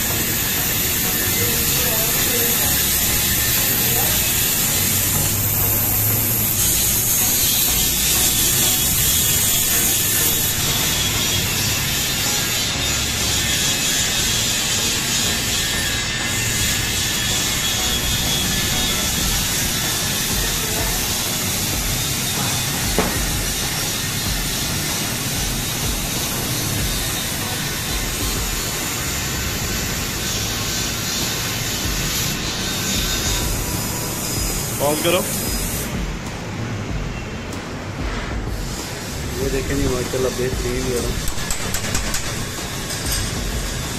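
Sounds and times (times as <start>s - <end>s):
laser cutter gas jet hissing: 0.0s - 36.0s, 38.6s - 43.9s.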